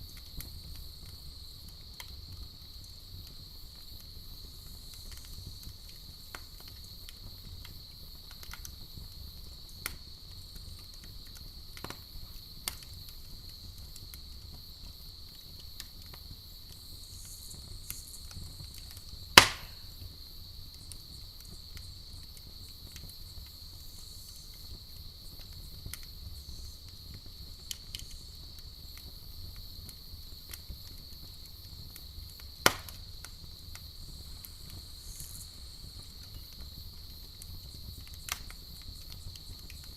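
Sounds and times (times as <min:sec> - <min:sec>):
campfire crackling: 0:00.0 - 0:39.9
crickets chirring: 0:00.0 - 0:39.9.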